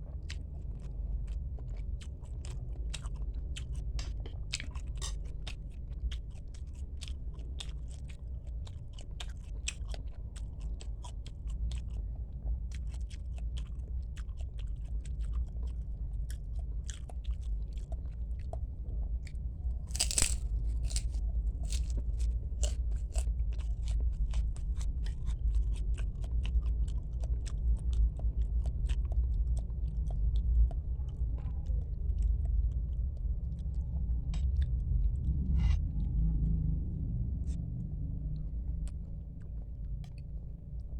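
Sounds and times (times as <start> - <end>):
steady low hum: 0.0 - 40.9
wet chewing and crunching: 0.1 - 36.6.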